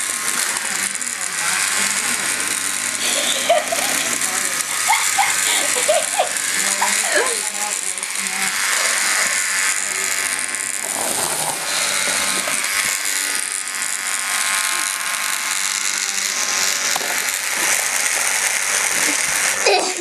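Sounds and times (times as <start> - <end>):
vibrating toy buzzing rattle: 0.0 - 20.0.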